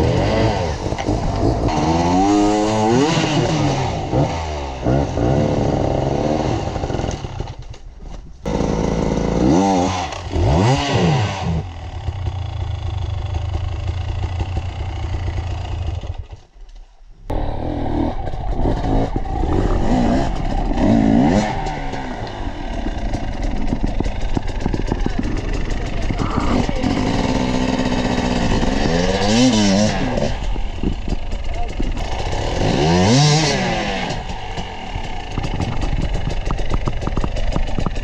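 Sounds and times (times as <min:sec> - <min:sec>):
motorcycle engines revving: 0:00.0 - 0:07.7, 0:08.4 - 0:16.2, 0:17.3 - 0:38.0.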